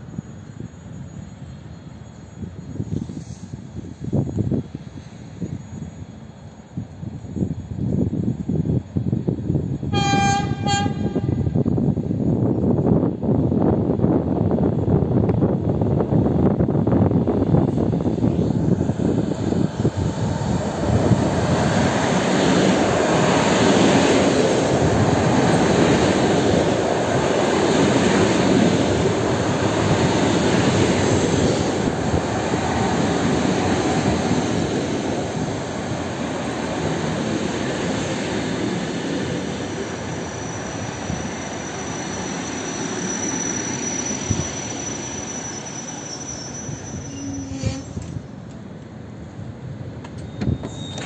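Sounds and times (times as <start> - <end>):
train rumbling past: 0.0 - 51.0.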